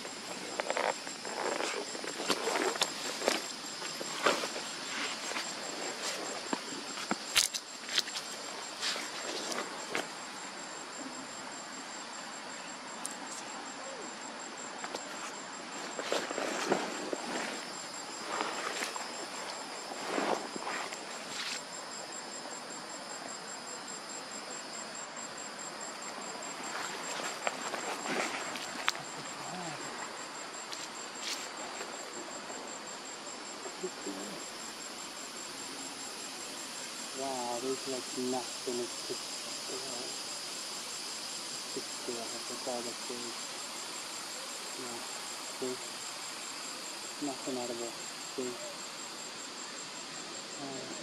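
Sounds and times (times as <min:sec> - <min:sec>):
insects trilling: 0:00.0 - 0:51.0.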